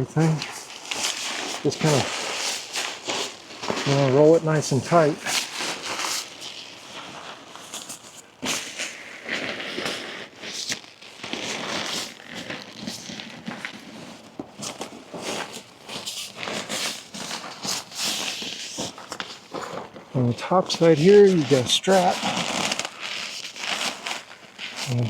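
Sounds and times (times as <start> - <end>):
tent fabric rustling: 0.0 - 25.0.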